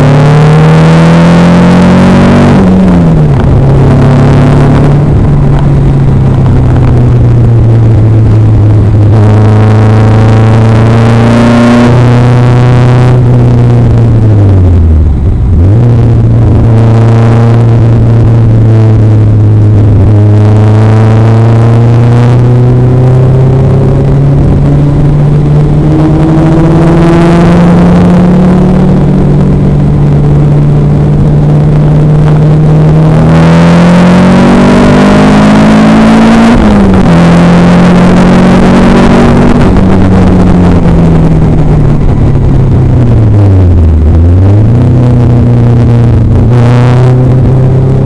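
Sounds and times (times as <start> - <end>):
sports car engine revving: 0.0 - 48.0.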